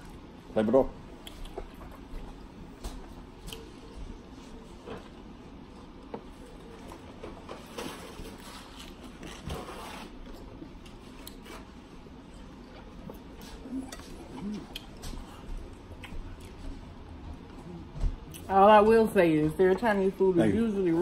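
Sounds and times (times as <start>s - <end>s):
people chewing: 0.0s - 18.5s.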